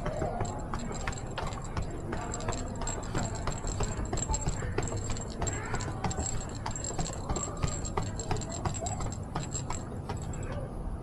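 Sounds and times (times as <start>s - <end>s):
footsteps on a rooftop: 0.0s - 10.5s.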